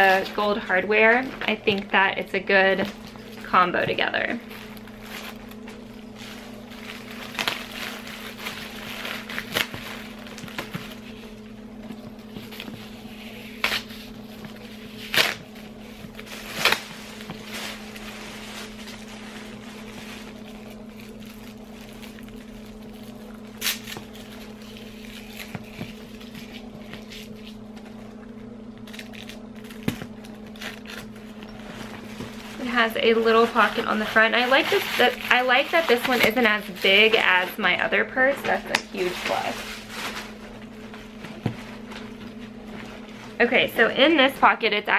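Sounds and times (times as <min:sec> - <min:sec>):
low motor hum: 0:00.0 - 0:44.9
paper and plastic wrapping crinkling: 0:00.0 - 0:44.9.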